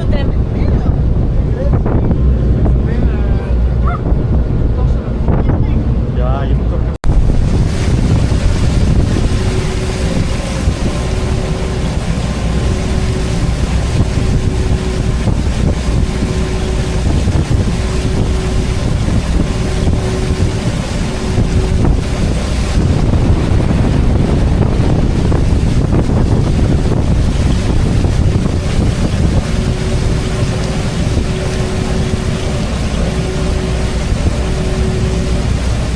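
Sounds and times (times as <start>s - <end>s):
boat engine running: 0.0s - 35.9s
wind buffeting microphone: 0.0s - 35.9s.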